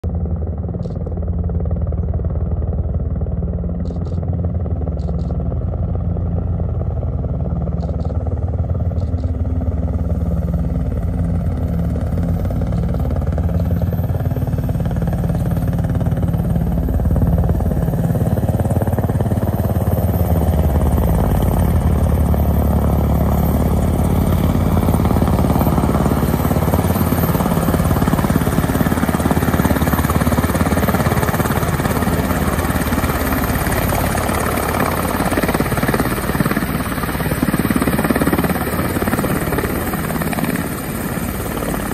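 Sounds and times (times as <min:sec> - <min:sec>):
helicopter rotors beating: 0:00.0 - 0:41.9.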